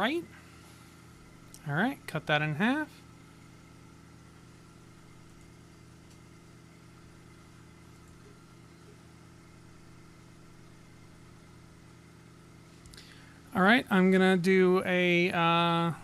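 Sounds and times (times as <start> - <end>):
faint equipment hum: 0.0 - 16.0.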